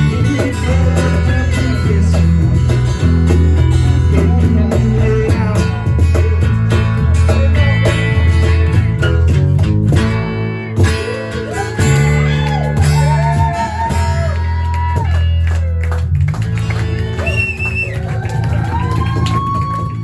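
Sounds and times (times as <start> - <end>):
country band playing live: 0.0 - 20.0
strummed guitars: 0.0 - 20.0.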